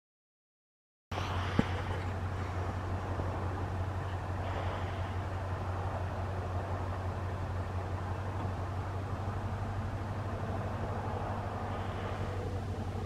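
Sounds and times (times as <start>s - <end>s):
tires rushing over ice: 1.1s - 13.0s
vehicle engine droning: 1.1s - 13.0s.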